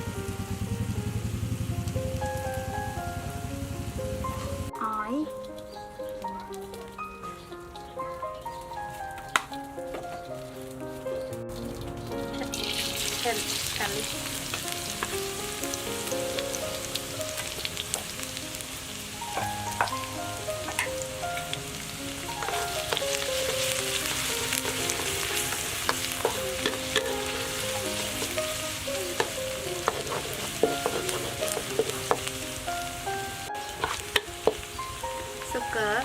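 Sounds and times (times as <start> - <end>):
background music melody: 0.0 - 36.0
garlic sizzling in hot oil: 0.0 - 36.0.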